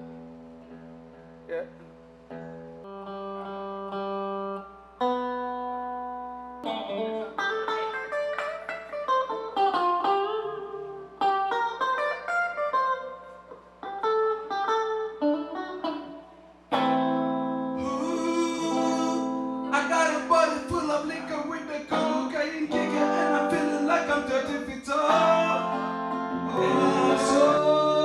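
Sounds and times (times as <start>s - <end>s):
guitar notes ringing: 0.0s - 28.0s.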